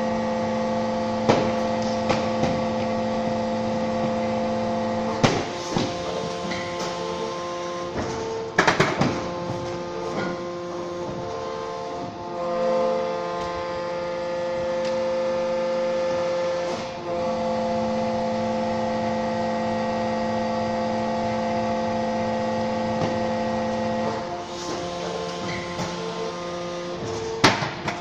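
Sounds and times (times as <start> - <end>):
hydraulic pump whining hum: 0.0 - 28.0.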